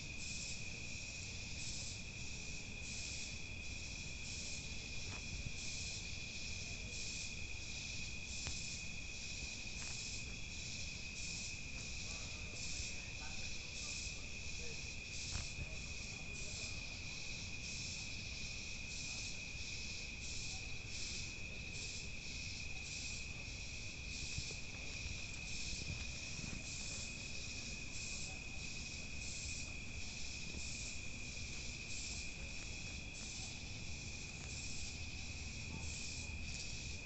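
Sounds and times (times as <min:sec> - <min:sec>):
crickets trilling: 0:00.0 - 0:37.0
pulsing rasping insect chorus: 0:00.0 - 0:37.0.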